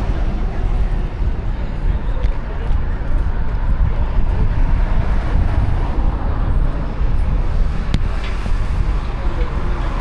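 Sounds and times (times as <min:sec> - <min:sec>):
low city street rumble: 0:00.0 - 0:10.0.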